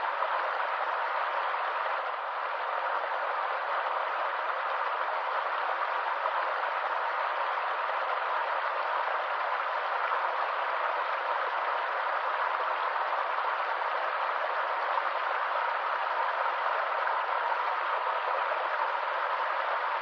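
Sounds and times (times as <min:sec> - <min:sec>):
stream water flowing: 0:00.0 - 0:20.0.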